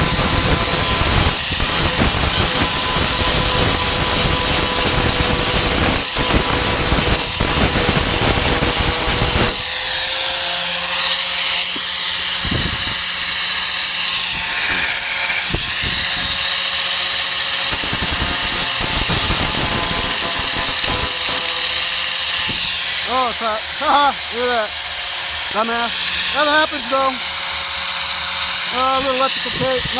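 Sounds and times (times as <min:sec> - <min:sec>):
angle grinder grinding metal: 0:00.0 - 0:29.9.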